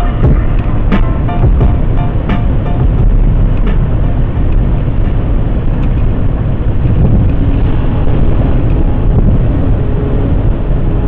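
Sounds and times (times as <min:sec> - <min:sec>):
road and wind noise in a car: 0:00.0 - 0:11.0.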